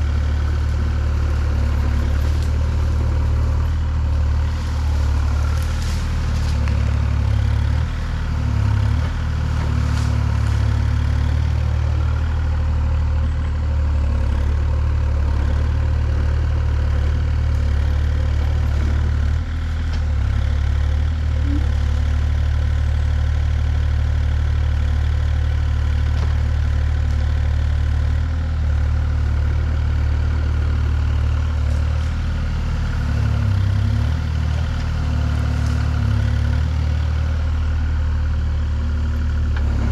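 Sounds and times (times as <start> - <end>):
deep engine running: 0.0 - 39.9.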